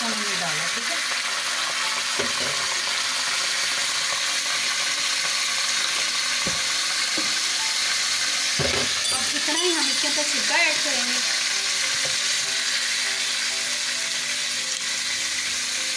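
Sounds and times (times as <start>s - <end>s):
sauce sizzling in hot oil: 0.0s - 15.9s.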